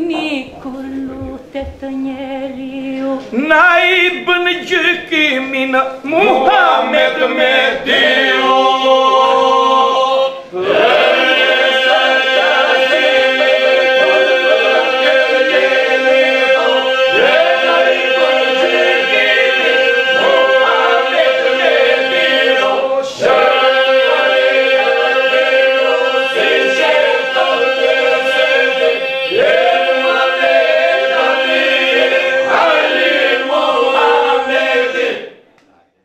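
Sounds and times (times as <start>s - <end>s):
group singing a devotional song: 2.7s - 35.5s.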